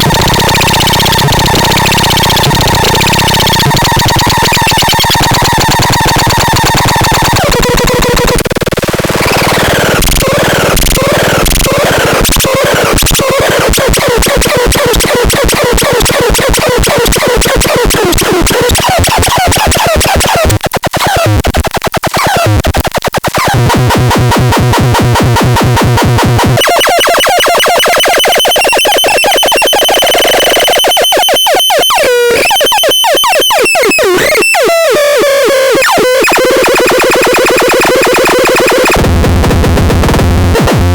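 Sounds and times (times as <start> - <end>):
buzzing synthesizer noise: 0.0 - 20.7, 23.4 - 40.9
rapid clicking pulses: 0.0 - 40.9.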